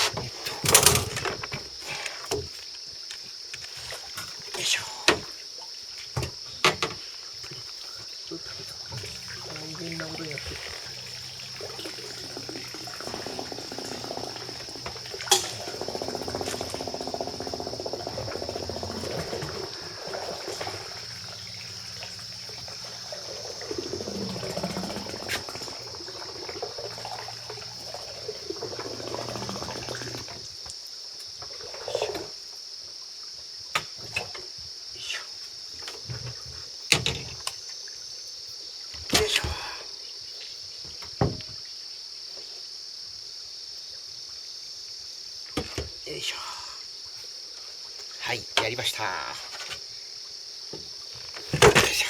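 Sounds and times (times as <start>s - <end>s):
water splashing and sloshing: 0.0s - 34.8s, 35.4s - 42.6s, 45.4s - 52.0s
insects buzzing: 0.0s - 52.0s.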